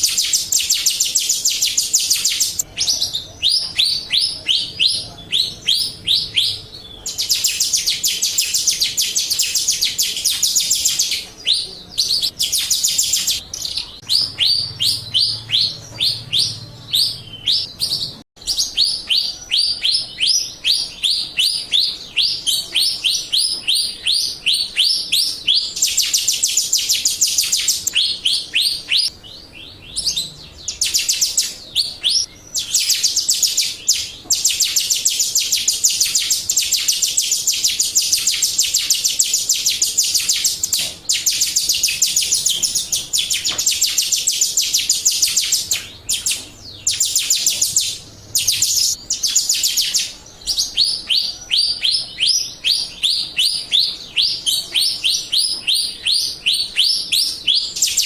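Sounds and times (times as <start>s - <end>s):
starling chirping: 0.0s - 58.0s.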